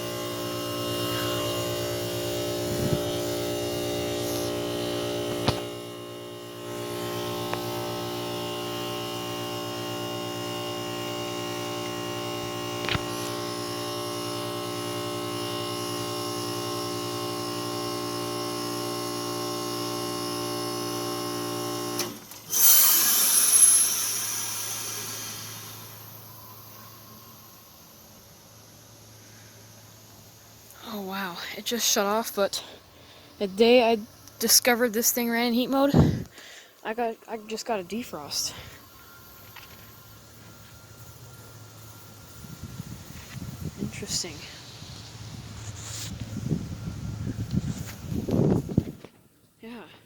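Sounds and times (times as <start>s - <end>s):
loud hiss of refrigerant: 0.0s - 35.2s, 37.4s - 48.9s
compressor humming: 0.0s - 50.0s.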